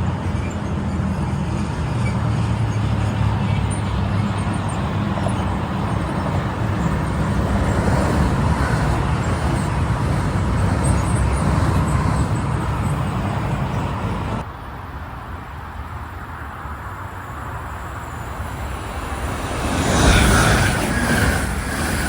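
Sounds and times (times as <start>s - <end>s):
train wheels rumbling on rail: 0.0s - 15.3s, 16.0s - 22.0s.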